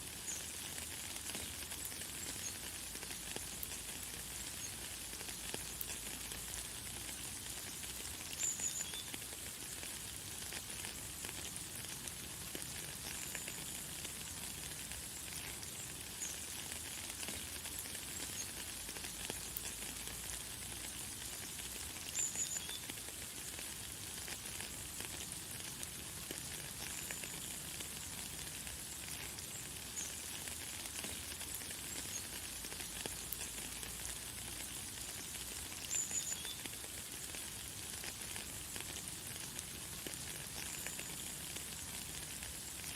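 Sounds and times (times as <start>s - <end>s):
light rain falling: 0.0s - 42.9s.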